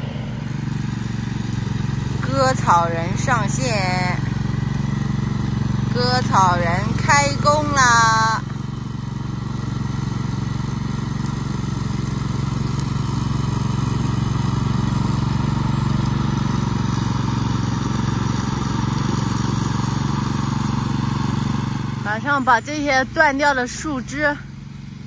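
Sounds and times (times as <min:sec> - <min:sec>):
riding lawn mower engine running: 0:00.0 - 0:25.0.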